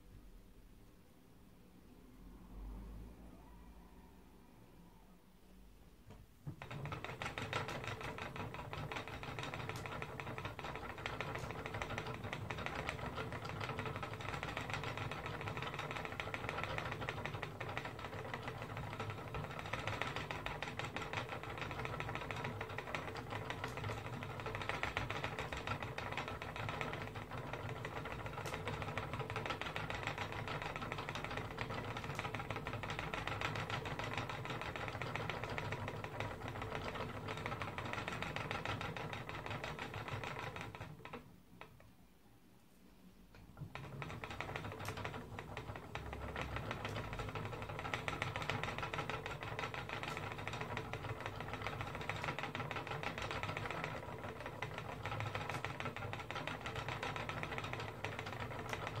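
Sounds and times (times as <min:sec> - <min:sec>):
spinning wheel rattling: 0:06.5 - 0:41.8, 0:43.6 - 0:59.0.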